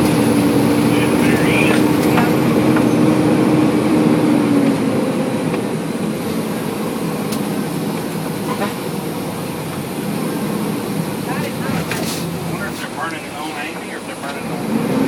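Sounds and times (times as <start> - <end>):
fire engine rumble from cab: 0.0 - 15.0.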